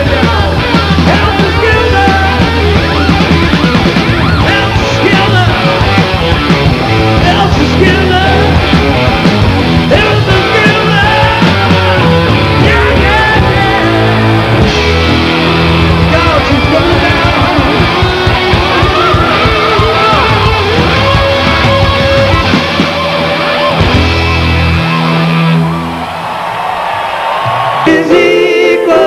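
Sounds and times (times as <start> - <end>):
electric guitar: 0.0 - 29.0
live rock band: 0.0 - 29.0.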